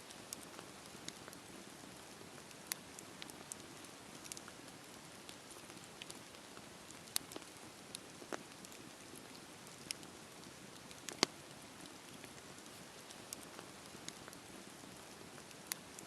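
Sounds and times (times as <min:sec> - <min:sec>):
fire crackling and popping: 0:00.1 - 0:16.0
rush of campfire flame: 0:00.1 - 0:16.0.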